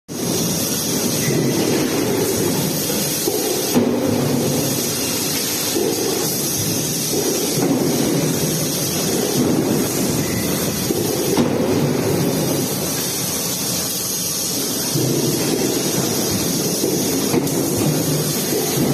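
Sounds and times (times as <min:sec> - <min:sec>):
factory machinery rumble and hiss: 0:00.1 - 0:18.9.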